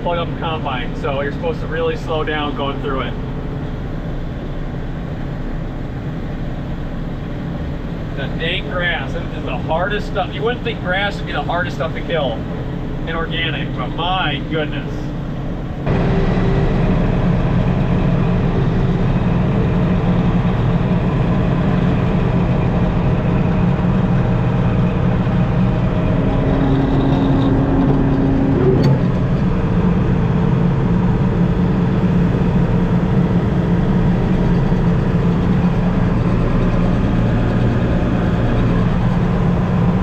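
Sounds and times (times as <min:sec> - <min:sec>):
combine engine and threshing drone: 0:00.0 - 0:40.0.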